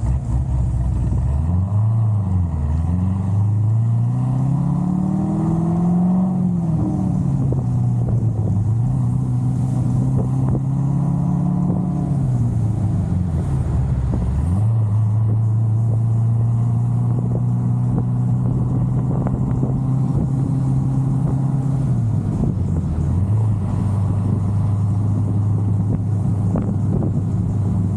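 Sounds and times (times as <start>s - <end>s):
car engine exhaust note: 0.0s - 27.9s
wind noise on microphone: 5.1s - 27.9s.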